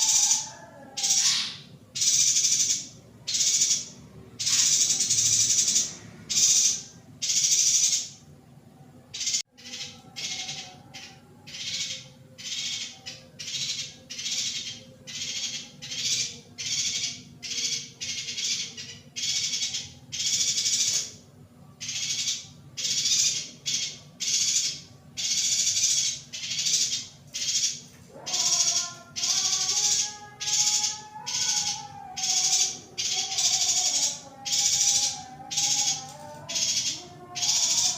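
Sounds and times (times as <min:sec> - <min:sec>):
bird buzzy rasping calls: 0:00.0 - 0:08.3, 0:09.0 - 0:37.9.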